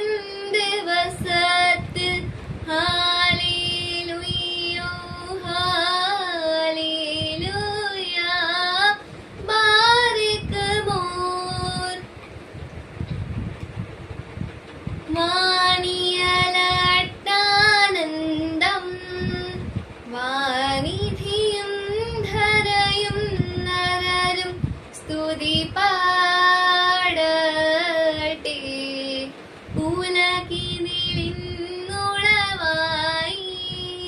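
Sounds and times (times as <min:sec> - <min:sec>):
girl singing a hymn: 0:00.0 - 0:12.1, 0:15.0 - 0:34.0.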